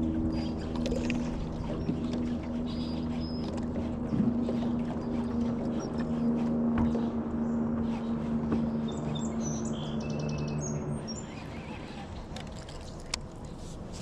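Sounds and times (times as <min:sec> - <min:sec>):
birds chirping: 0:00.0 - 0:13.6
steady low hum: 0:00.0 - 0:14.0.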